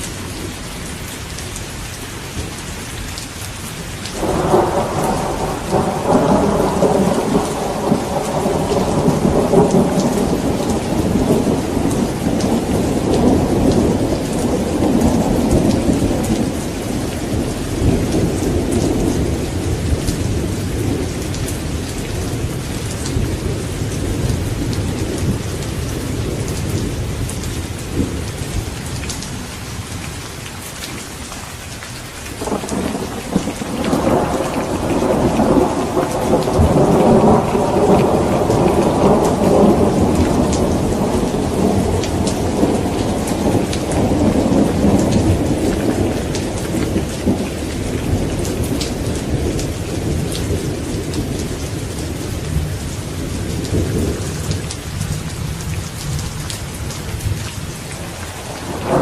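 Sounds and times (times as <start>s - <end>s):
steady rain: 0.0s - 59.0s
rolling thunder: 4.2s - 29.2s, 32.4s - 59.0s.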